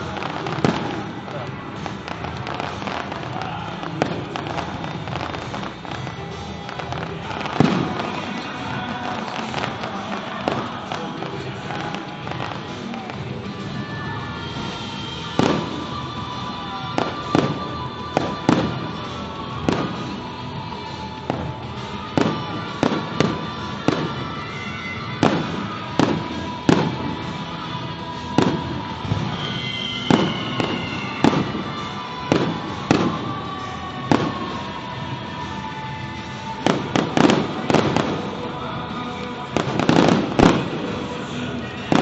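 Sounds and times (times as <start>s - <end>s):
fireworks bursting: 0.0s - 42.0s
music: 0.0s - 42.0s.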